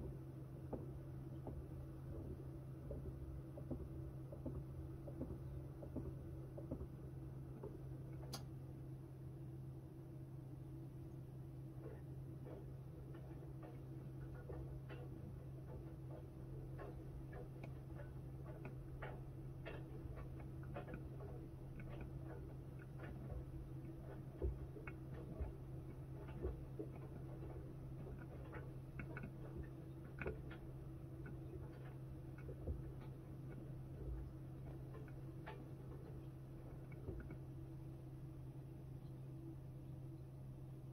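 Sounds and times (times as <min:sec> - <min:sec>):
light clicks and ticks: 0:00.0 - 0:08.6, 0:11.8 - 0:40.3
washing machine humming: 0:00.0 - 0:40.9.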